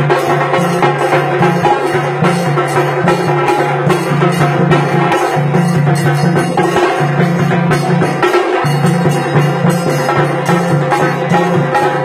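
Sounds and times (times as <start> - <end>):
drum ensemble playing: 0.0 - 12.0.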